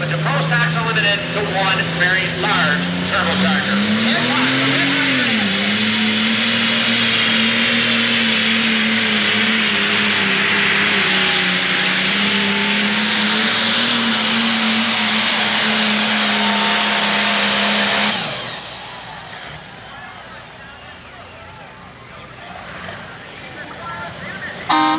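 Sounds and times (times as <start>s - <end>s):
diesel engine at full load: 0.0s - 24.9s.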